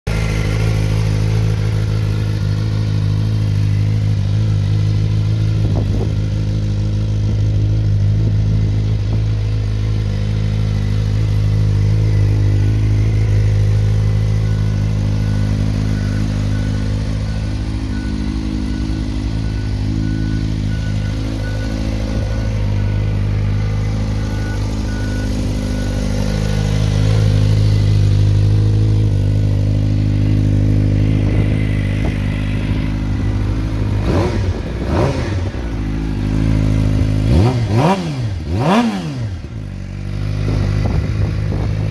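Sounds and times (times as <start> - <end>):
motorcycle engine idling: 0.1 - 41.9.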